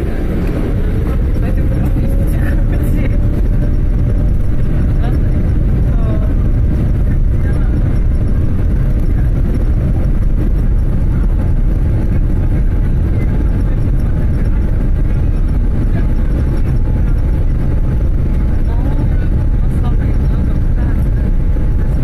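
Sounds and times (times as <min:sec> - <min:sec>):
jet engines roaring in cabin: 0:00.0 - 0:22.0.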